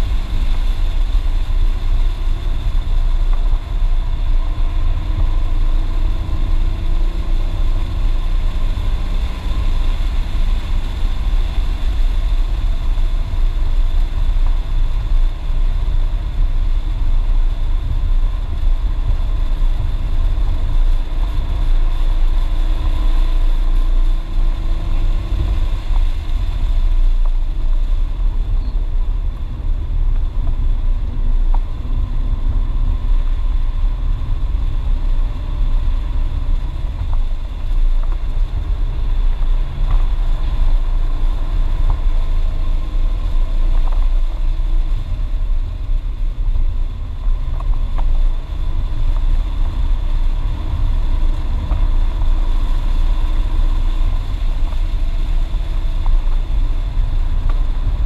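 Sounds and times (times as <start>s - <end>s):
car engine drone: 0.0s - 58.0s
road and wind rumble: 0.0s - 58.0s.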